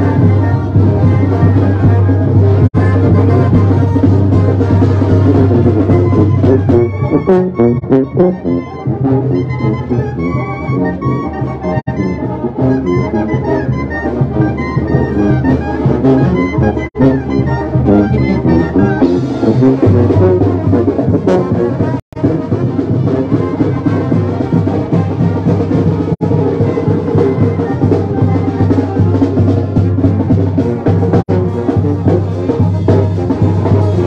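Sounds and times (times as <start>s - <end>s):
brass band playing loudly: 0.0s - 34.0s
drums: 0.0s - 34.0s.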